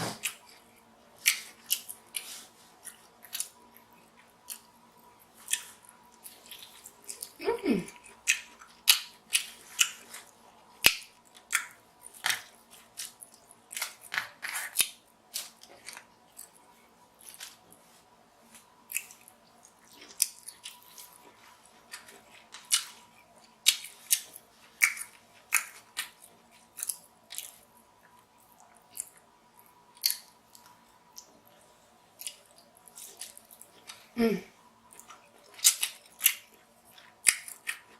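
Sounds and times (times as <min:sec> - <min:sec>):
chewing and lip smacking: 0:00.2 - 0:17.5, 0:18.9 - 0:31.4, 0:34.9 - 0:37.9.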